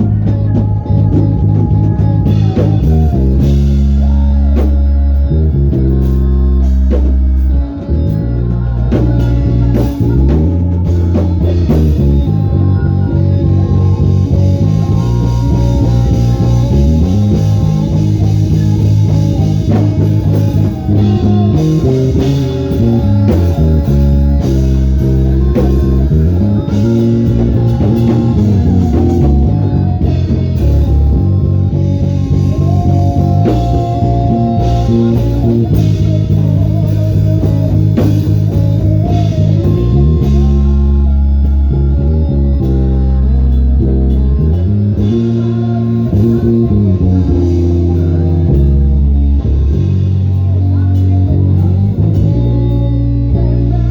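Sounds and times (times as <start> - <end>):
electric bass guitar melody: 0.0 - 53.9
instrumental band music: 0.0 - 53.9.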